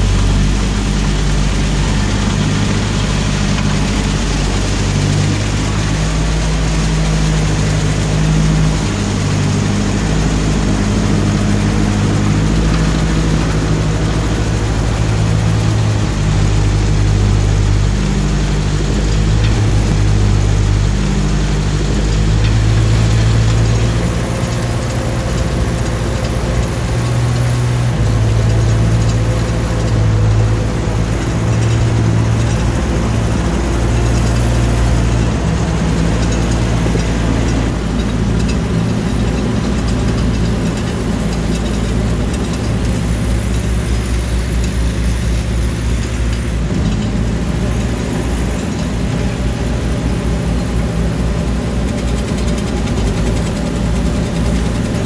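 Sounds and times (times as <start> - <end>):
snowblower throwing snow: 0.0 - 55.0
tractor engine running under load: 0.0 - 55.0.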